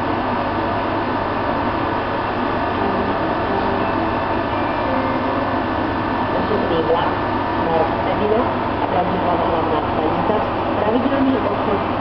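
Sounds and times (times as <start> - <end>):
train blowers humming: 0.0 - 12.0.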